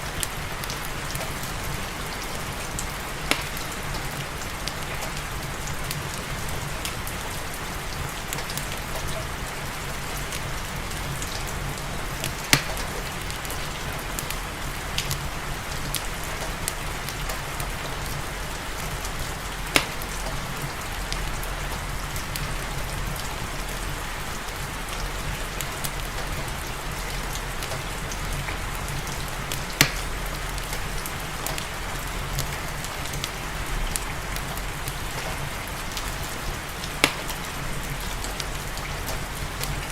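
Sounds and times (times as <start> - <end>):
steady rain: 0.0 - 39.9
wood fire crackling and popping: 0.1 - 7.4, 8.2 - 23.9, 24.8 - 39.9.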